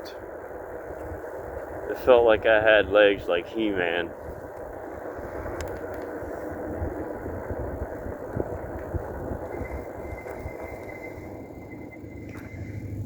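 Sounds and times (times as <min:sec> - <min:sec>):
electric bike rumbling ride: 0:00.0 - 0:13.0
faint high whine: 0:00.0 - 0:13.0.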